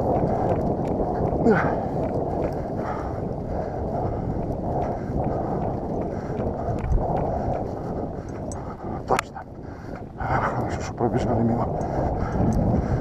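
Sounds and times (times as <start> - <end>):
faint footsteps: 0.0 - 13.0
wind buffeting microphone: 0.0 - 13.0.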